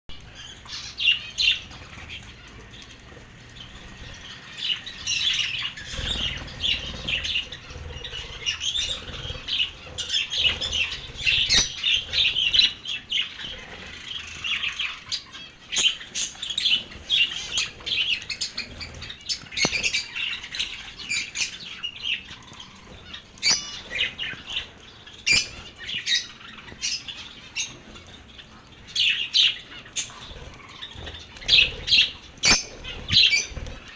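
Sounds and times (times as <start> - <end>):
lovebirds chirping and squawking: 0.1 - 33.9.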